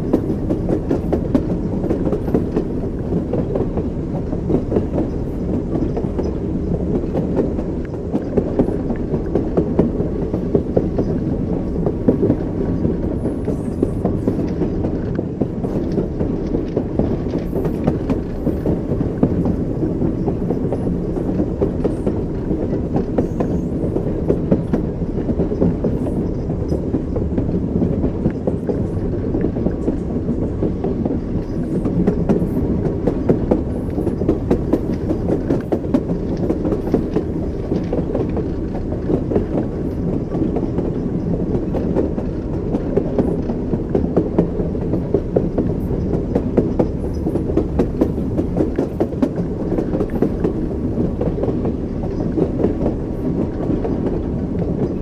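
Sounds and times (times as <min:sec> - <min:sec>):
train carriage low rumble: 0:00.0 - 0:55.0
train wheels clickety-clack: 0:00.0 - 0:55.0.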